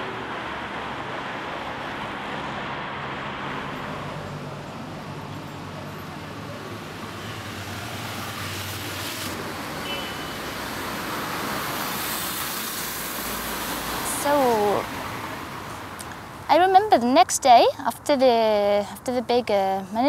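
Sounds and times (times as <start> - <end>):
street traffic hum: 0.0 - 20.0.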